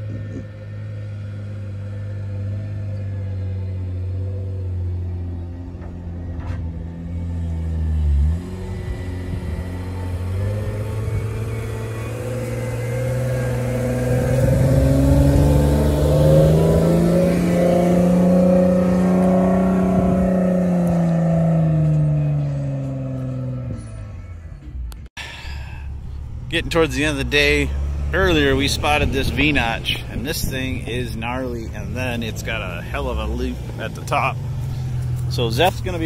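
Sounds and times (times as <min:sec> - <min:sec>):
engine revving under load: 0:00.0 - 0:36.0.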